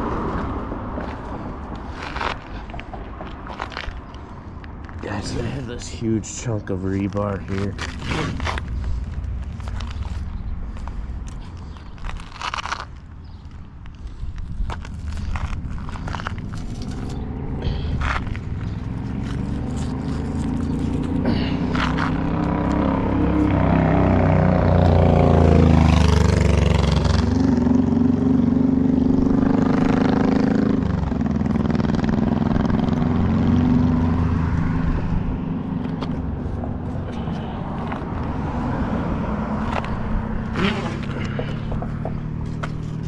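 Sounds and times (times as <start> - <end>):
motor vehicles passing by: 0.0 - 43.0.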